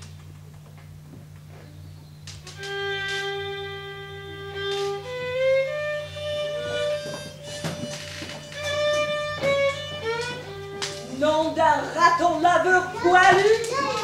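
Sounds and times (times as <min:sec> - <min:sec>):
low electrical hum: 0:00.0 - 0:14.0
fiddle playing: 0:02.5 - 0:14.0.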